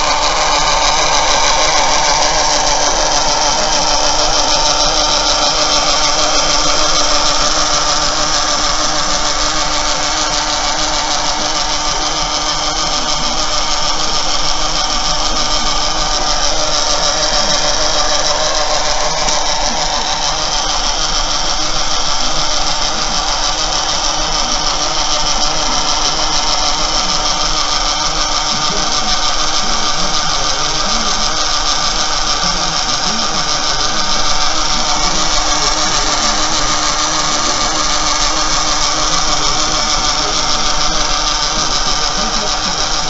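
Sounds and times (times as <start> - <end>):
small electric motor buzzing: 0.0 - 43.0.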